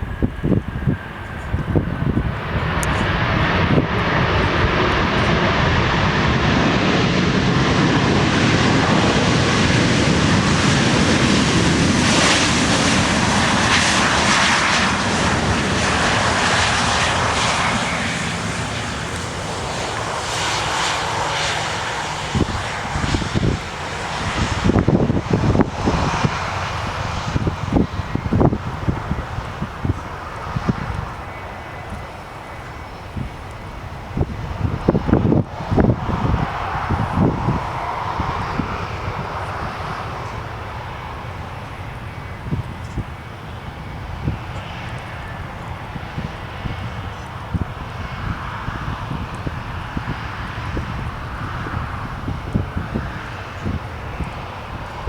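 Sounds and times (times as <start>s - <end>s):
jet engines roaring: 0.0s - 55.0s
wind gusts on microphone: 0.0s - 55.0s.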